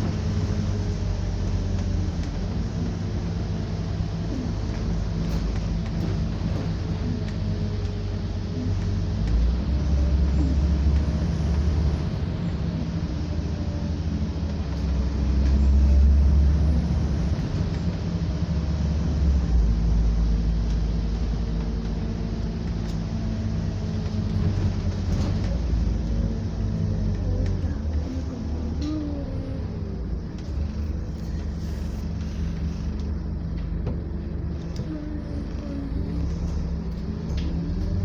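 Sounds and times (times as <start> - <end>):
bus engine rumble: 0.0 - 38.0.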